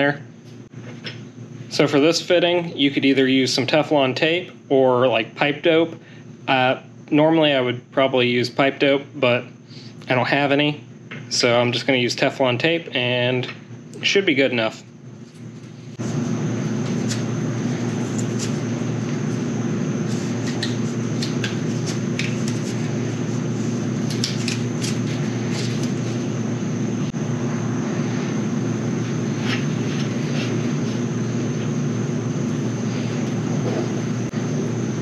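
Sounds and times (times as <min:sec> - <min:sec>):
mechanical drone with high whine: 0:00.0 - 0:35.0.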